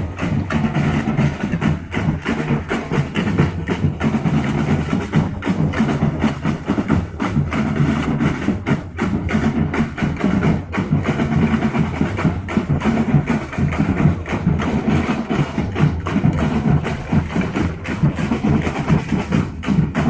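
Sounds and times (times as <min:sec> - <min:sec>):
drums struck in fast rhythm: 0:00.0 - 0:20.0.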